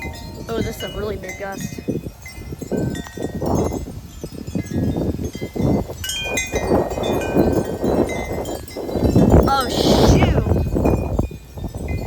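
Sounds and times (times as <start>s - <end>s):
wind chimes ringing: 0.0s - 9.6s, 10.4s - 12.0s
wind buffeting microphone: 0.0s - 12.0s.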